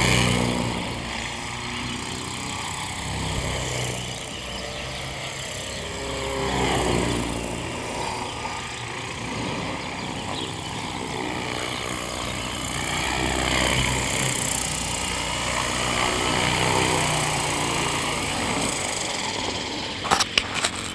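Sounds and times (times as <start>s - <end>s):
toy helicopter rotors whirring: 0.0s - 20.9s.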